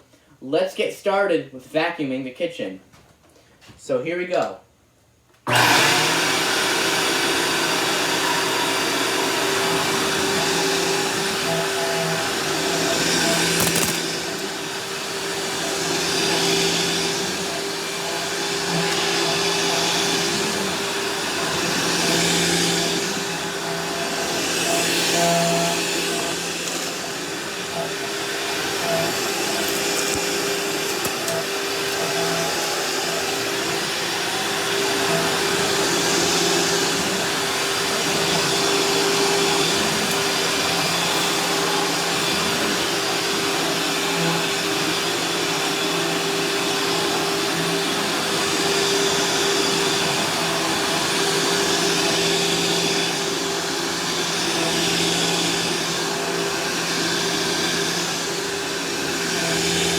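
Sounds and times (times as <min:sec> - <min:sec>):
vacuum cleaner running: 0:05.4 - 0:59.9.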